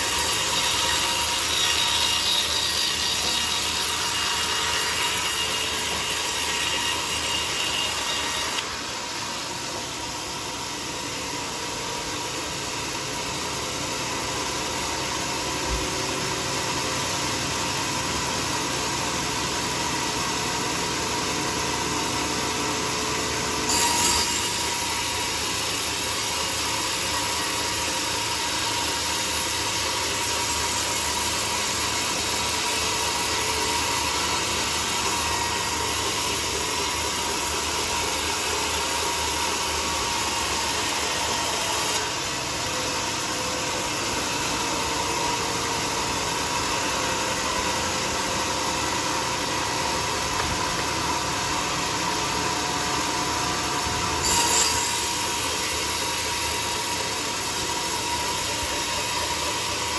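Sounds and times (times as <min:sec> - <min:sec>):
band saw cutting wood: 0:00.0 - 0:11.6, 0:23.2 - 0:59.9.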